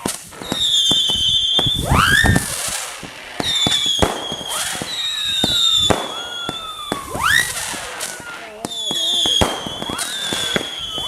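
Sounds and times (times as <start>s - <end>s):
firework hummers whining: 0.0s - 11.0s
firework report cracks: 0.0s - 11.0s.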